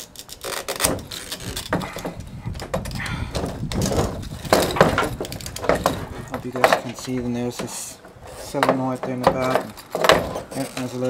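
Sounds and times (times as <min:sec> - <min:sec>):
plastic parts clicking and rattling: 0:00.0 - 0:11.0.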